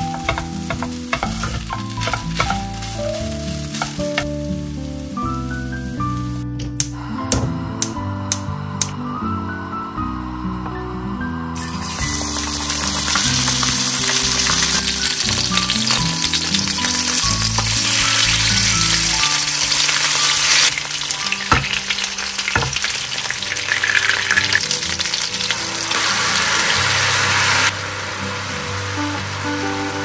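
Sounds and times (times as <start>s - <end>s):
chicken sizzling in frying pan: 0.0s - 30.0s.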